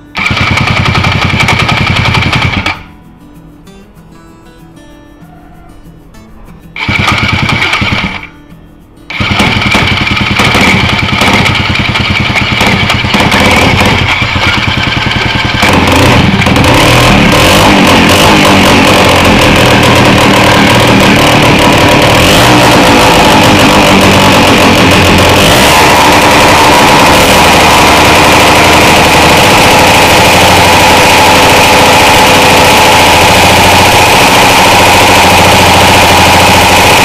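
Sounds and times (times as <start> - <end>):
small two-stroke engine running: 0.0 - 3.0, 6.7 - 8.5, 9.1 - 37.0.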